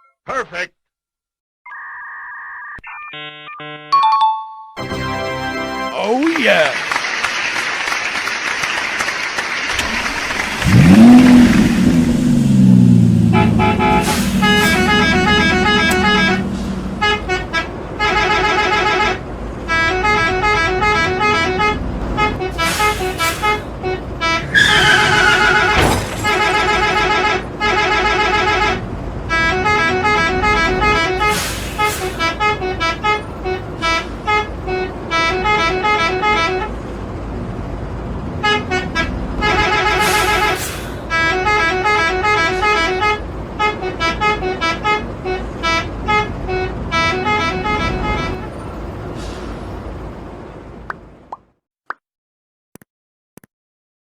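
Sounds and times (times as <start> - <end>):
bus multi-tone horn melody: 3.1 - 6.1, 6.7 - 50.7.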